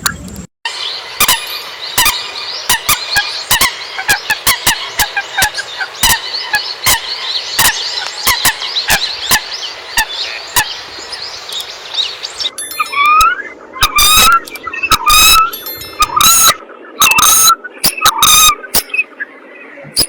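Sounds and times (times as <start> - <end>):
sharp clicking bird calls: 0.0 - 19.3
coots chattering: 0.7 - 20.0.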